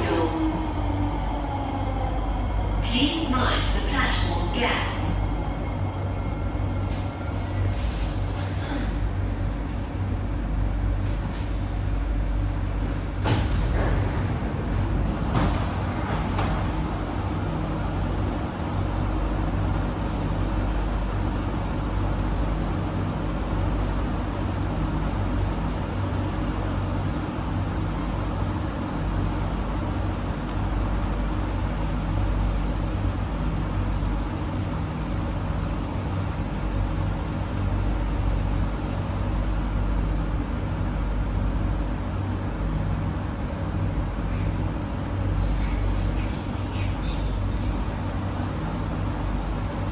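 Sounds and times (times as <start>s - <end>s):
train air-conditioning hum: 0.0s - 49.9s.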